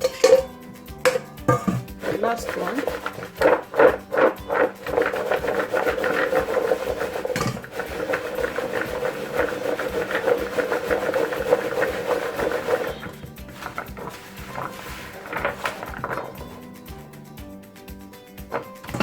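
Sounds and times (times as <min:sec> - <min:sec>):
peanuts rubbing in flour bowl: 0:00.0 - 0:19.0.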